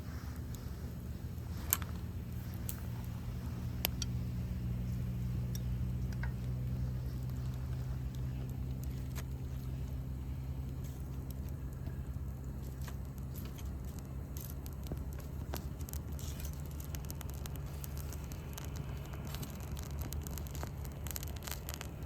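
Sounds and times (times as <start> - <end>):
campfire crackling: 0.0 - 22.0
sharp pops and ticks: 0.0 - 22.0
steady low hum: 0.0 - 22.0.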